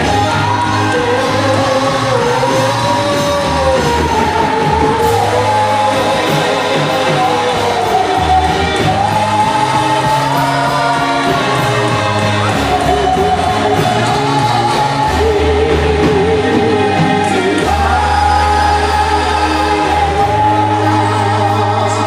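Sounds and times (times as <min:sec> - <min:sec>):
group of voices singing: 0:00.0 - 0:22.0
low bass line: 0:00.0 - 0:22.0.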